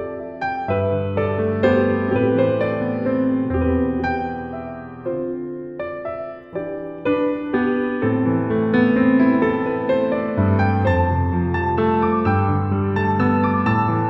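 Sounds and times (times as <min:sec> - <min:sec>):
soft piano melody: 0:00.0 - 0:14.0.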